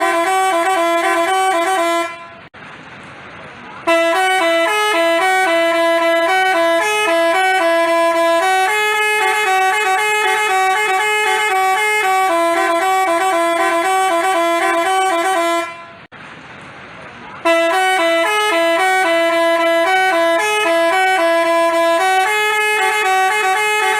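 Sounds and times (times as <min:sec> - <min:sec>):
multi-tone bus horn melody: 0:00.0 - 0:02.5, 0:03.8 - 0:16.1, 0:17.4 - 0:23.9.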